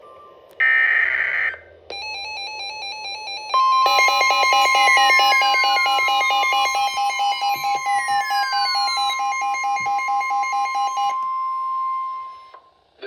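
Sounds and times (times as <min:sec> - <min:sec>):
steady high alarm tone: 0:00.6 - 0:12.6
alternating electronic beeps: 0:01.2 - 0:12.6
pulsing lower tone: 0:01.9 - 0:12.6.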